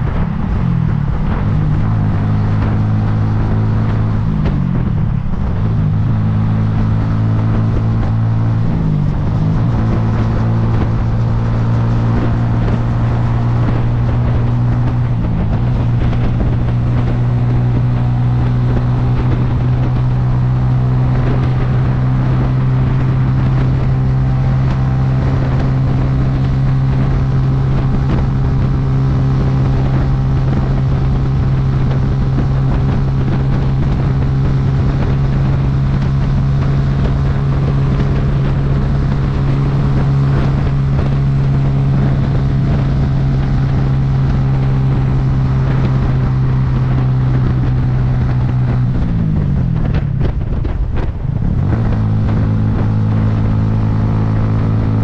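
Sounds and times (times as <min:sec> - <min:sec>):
motorcycle engine cruising: 0:00.0 - 0:55.0
wind on microphone: 0:00.0 - 0:55.0.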